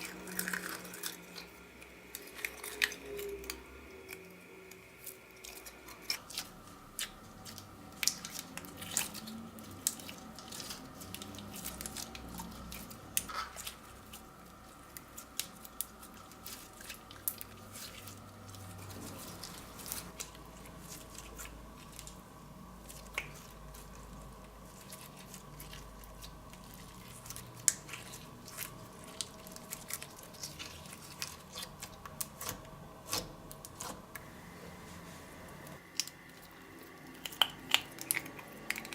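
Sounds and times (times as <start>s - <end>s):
faint background hum: 0.0s - 38.9s.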